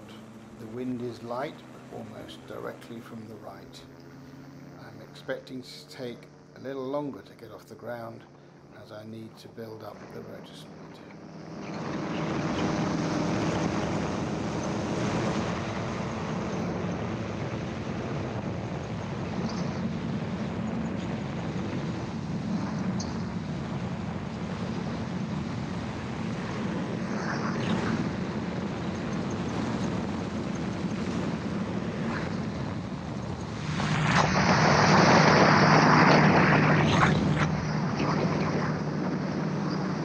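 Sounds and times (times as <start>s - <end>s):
aircraft engine and propeller: 0.0s - 40.0s.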